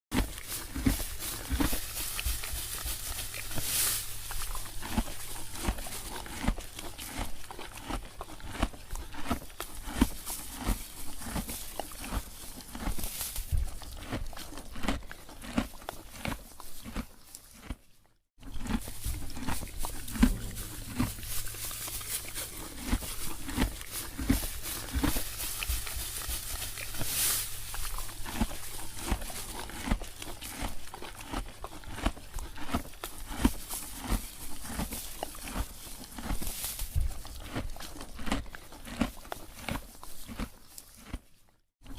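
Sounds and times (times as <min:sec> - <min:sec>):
person chewing cookies: 0:00.1 - 0:41.9.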